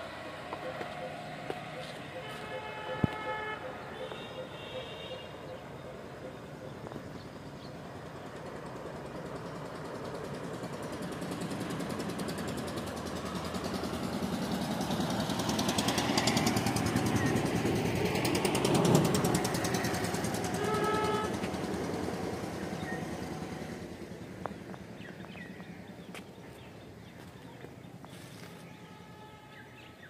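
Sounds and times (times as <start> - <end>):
vehicle engine passing: 0.0 - 4.6, 5.2 - 28.7.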